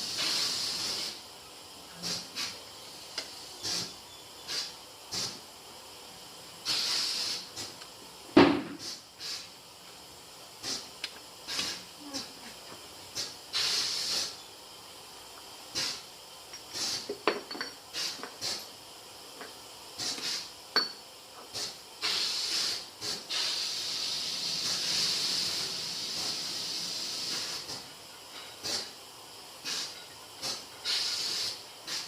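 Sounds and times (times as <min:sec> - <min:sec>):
compressed air hissing: 0:00.0 - 0:07.8, 0:08.6 - 0:12.4, 0:13.0 - 0:17.2, 0:17.9 - 0:20.7, 0:21.5 - 0:32.0.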